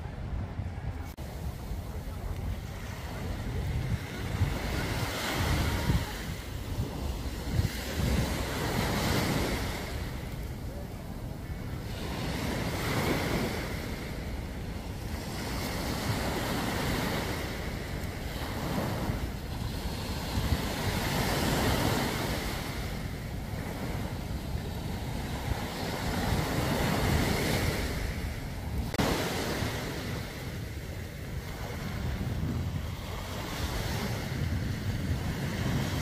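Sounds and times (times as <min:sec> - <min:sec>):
waves washing up a sandy beach: 0:00.0 - 0:36.0
wind buffeting the microphone: 0:00.0 - 0:36.0.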